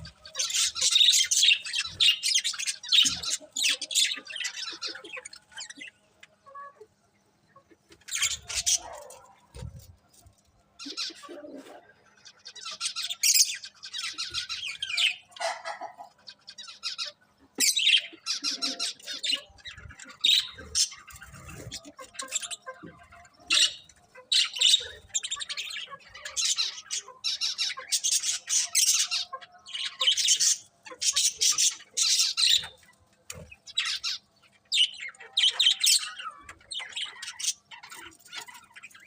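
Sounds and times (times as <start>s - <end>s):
budgerigars chirping: 0.0s - 5.9s, 12.5s - 39.0s.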